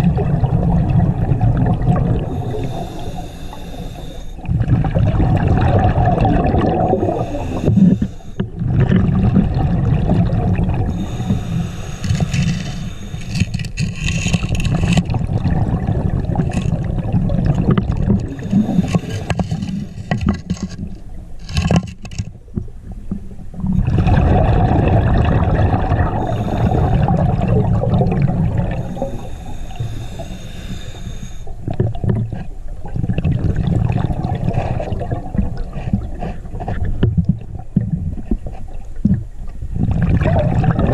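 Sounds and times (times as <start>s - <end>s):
underwater bubbling surges: 0.0s - 13.5s, 14.4s - 21.4s, 22.4s - 30.9s, 31.5s - 40.9s
underwater rumble of moving water: 0.0s - 40.9s.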